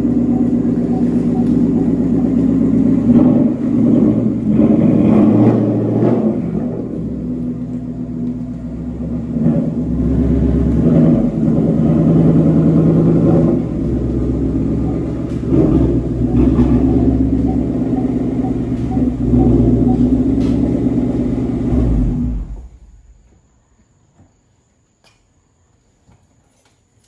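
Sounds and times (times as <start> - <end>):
car engine revving: 0.0 - 23.2.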